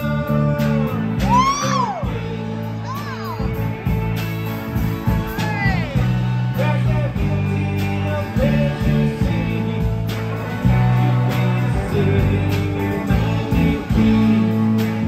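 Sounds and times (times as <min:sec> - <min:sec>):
drum kit beat: 0:00.0 - 0:15.0
electric bass: 0:00.0 - 0:15.0
electric guitars: 0:00.0 - 0:15.0.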